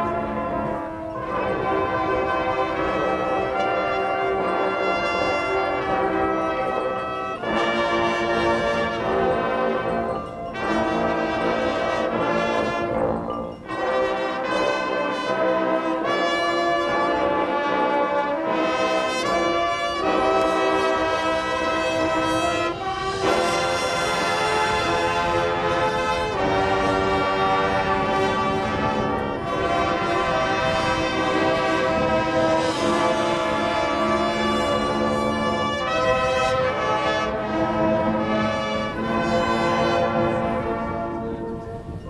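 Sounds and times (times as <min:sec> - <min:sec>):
marching band brass chords: 0:00.0 - 0:42.0.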